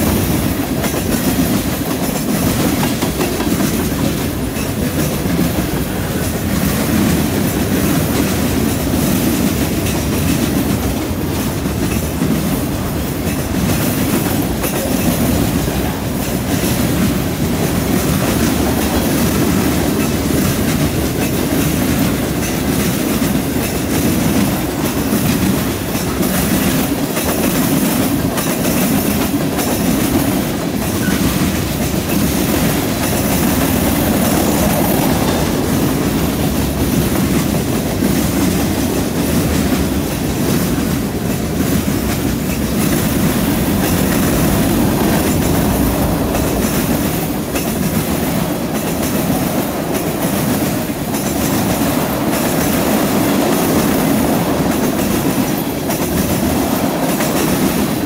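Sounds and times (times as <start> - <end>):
steel wheels rumbling on rails: 0.0 - 58.0
wheels clacking over rail joints: 0.0 - 58.0.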